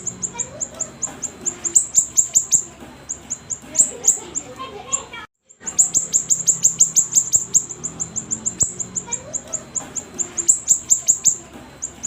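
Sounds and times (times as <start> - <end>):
songbird high chip notes: 0.0 - 12.0.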